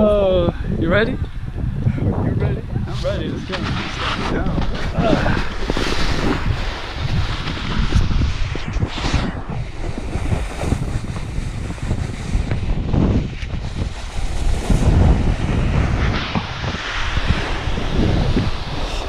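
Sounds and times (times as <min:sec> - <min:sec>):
wind buffeting microphone: 0:00.0 - 0:19.0
snowboard edge scraping snow: 0:02.9 - 0:19.0.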